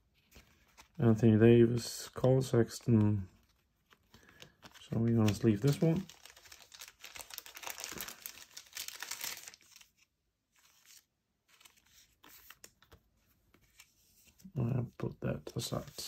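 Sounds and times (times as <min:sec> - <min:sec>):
plastic card sleeve crinkling: 0:00.2 - 0:01.2, 0:02.1 - 0:14.5.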